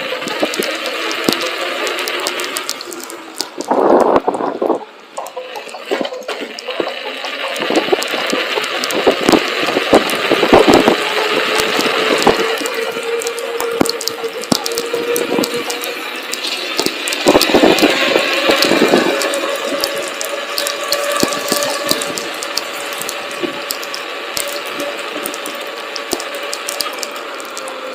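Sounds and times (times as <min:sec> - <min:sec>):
electric motor whining: 0:00.0 - 0:04.4, 0:05.2 - 0:27.9
tyre and wind noise: 0:00.0 - 0:05.0, 0:05.6 - 0:23.8
sharp clicks: 0:00.0 - 0:27.8.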